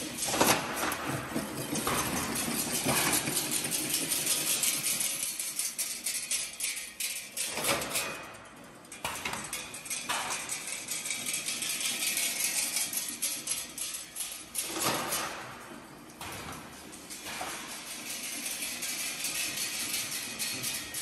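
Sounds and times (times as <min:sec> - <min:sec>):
fence machine metallic clatter: 0:00.0 - 0:21.0.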